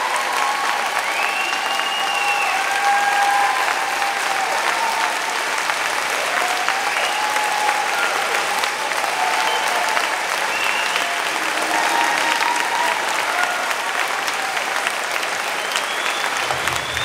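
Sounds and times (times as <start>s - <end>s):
audience applause: 0.0s - 17.0s.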